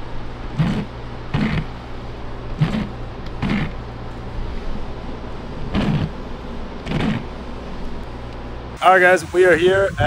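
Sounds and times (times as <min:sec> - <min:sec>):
car cabin drone: 0:00.0 - 0:10.0.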